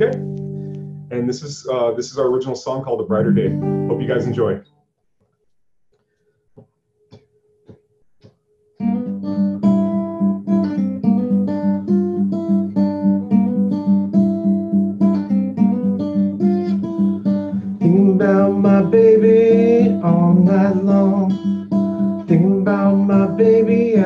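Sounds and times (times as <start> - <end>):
acoustic guitar strumming: 0.0 - 4.6, 8.8 - 24.0.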